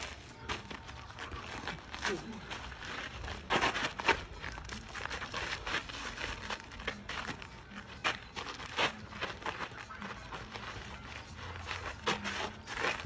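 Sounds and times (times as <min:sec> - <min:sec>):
sneakers scuffing on pavement: 0:00.0 - 0:13.0.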